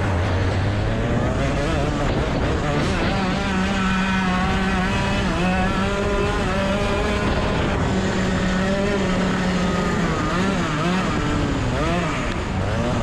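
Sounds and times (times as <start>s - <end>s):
kart engine at high revs: 0.0s - 13.0s.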